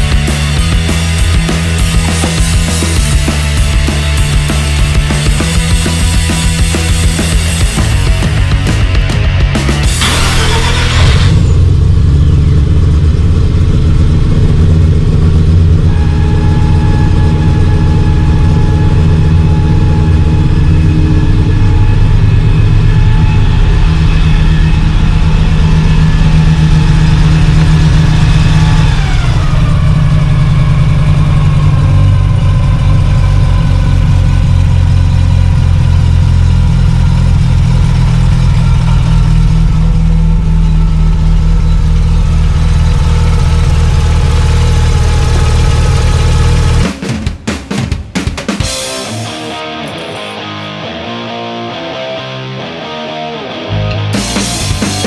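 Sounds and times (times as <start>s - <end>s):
rotary engine idling: 0.0s - 47.1s.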